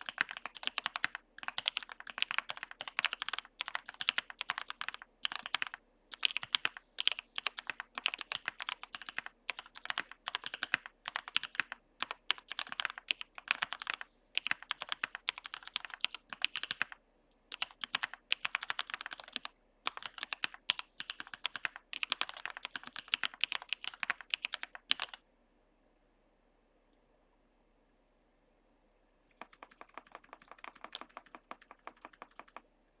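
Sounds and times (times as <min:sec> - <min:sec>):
fast typing on mechanical keyboard: 0:00.0 - 0:25.2, 0:29.3 - 0:32.6.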